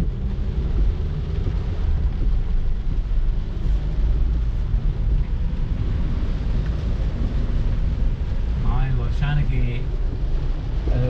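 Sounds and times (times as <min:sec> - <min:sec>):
car engine and tyres on wet road: 0:00.0 - 0:11.0.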